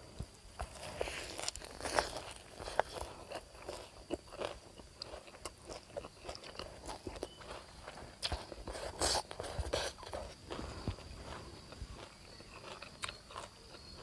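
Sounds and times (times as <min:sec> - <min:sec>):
wet chewing and crunching: 0:00.1 - 0:14.0.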